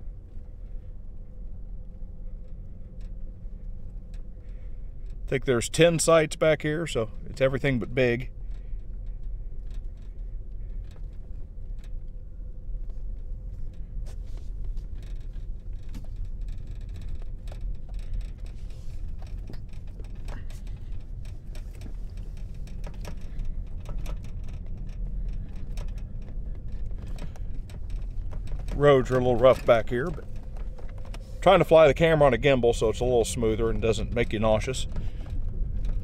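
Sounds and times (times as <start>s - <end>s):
car rattling: 0.0s - 36.0s.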